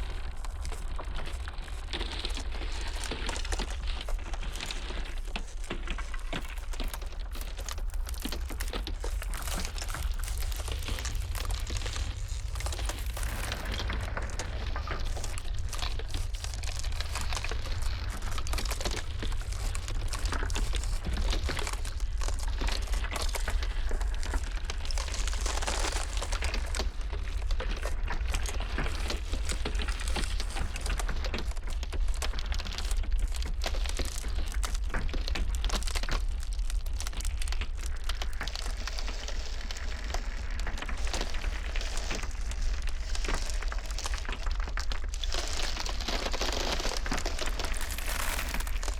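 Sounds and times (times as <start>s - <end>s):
blizzard wind rumbling: 0.0s - 32.8s, 36.9s - 48.9s
ice cracking: 0.0s - 48.9s.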